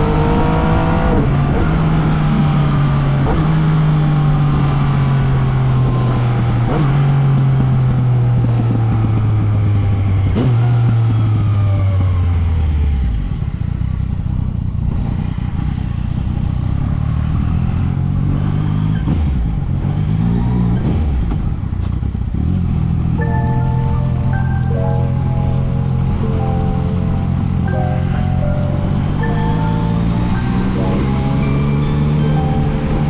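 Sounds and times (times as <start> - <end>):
motorcycle engine: 0.0 - 19.9, 20.8 - 33.0.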